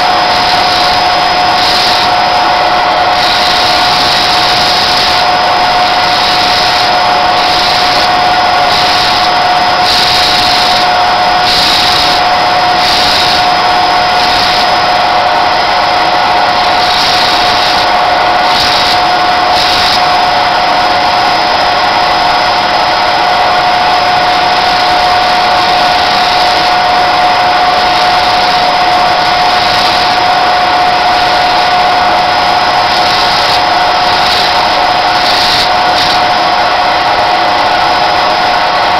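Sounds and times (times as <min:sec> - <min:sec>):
sanding disc motor whine: 0:00.0 - 0:38.9.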